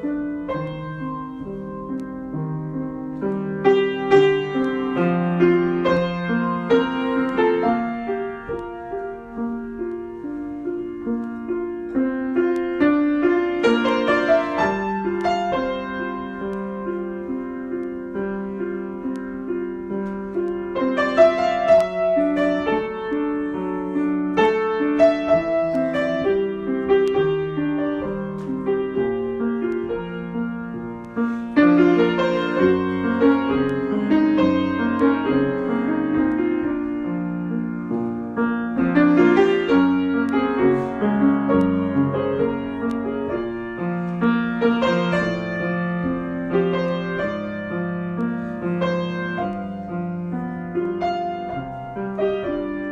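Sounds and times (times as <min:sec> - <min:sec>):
solo piano improvisation: 0:00.0 - 0:52.9.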